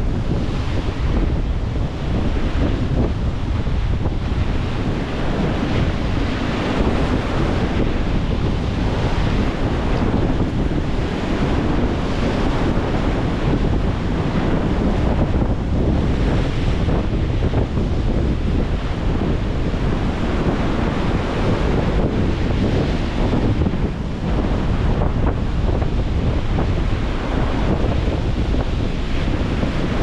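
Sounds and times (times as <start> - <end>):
surf breaking: 0.0 - 30.0
wind buffeting microphone: 0.0 - 30.0.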